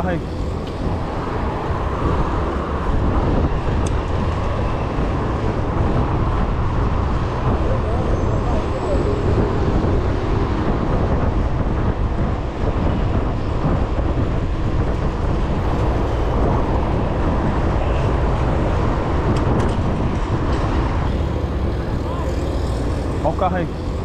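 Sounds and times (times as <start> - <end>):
bike tyre noise on asphalt: 0.0 - 24.0
wind buffeting microphone: 0.0 - 24.0.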